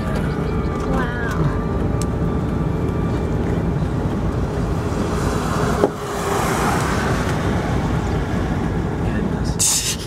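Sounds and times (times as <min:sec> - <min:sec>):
car rumble: 0:00.0 - 0:10.0.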